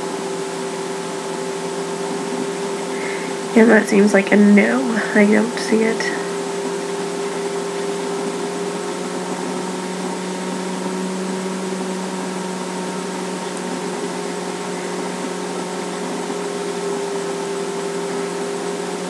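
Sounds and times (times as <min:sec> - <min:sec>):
machine hum with hiss: 0:00.0 - 0:19.0.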